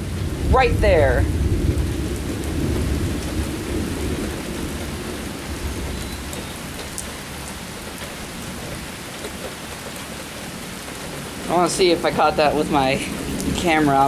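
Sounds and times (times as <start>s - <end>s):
thunder rumbling: 0.0s - 9.0s, 11.2s - 14.0s
heavy rain pouring: 0.0s - 14.0s.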